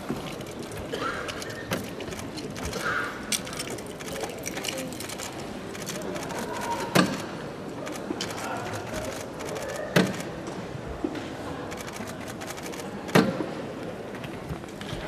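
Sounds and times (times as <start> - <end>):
low background chatter: 0.6 - 15.0.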